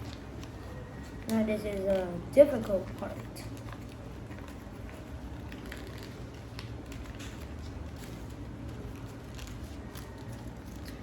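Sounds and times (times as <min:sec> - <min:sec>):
low background hum: 0:00.0 - 0:11.0
paper rustling and crinkling: 0:00.0 - 0:11.0.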